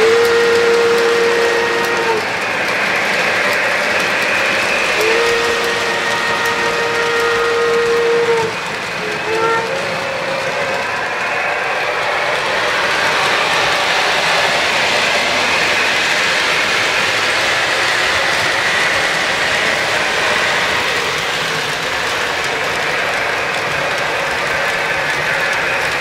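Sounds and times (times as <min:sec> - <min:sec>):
model train wheels and gears clattering: 0:00.0 - 0:26.0.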